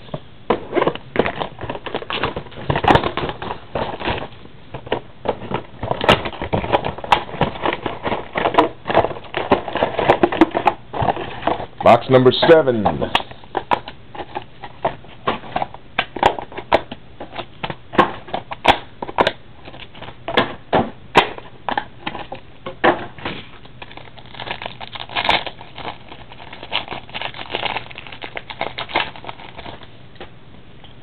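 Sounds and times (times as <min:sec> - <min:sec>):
plastic wrapping and cardboard crackling: 0:00.0 - 0:30.0.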